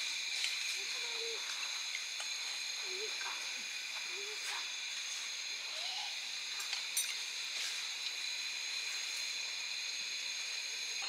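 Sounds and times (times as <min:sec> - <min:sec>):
faint high whining tones: 0:00.0 - 0:11.0
steady hiss: 0:00.0 - 0:11.0.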